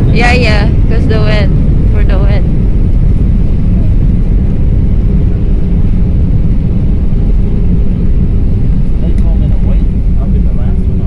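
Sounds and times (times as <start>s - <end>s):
jet engines and wheels rumbling: 0.0s - 11.0s.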